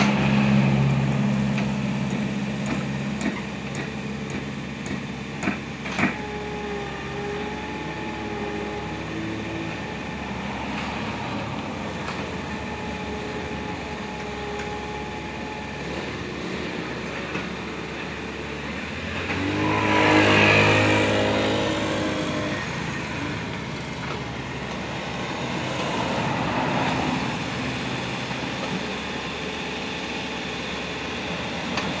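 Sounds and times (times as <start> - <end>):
excavator diesel engine running: 0.0 - 32.0
passing vehicle: 0.0 - 32.0.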